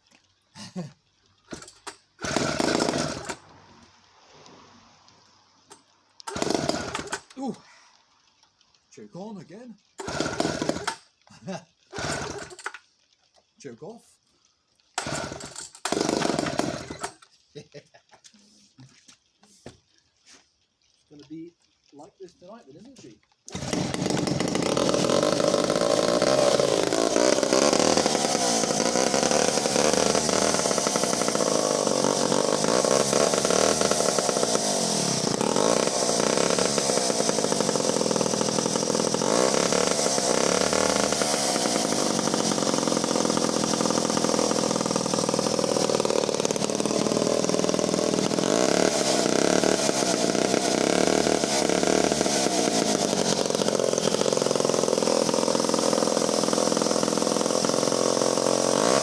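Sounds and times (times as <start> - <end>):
chainsaw engine revving: 1.4 - 7.6, 9.3 - 12.8, 15.0 - 17.3, 23.4 - 59.0.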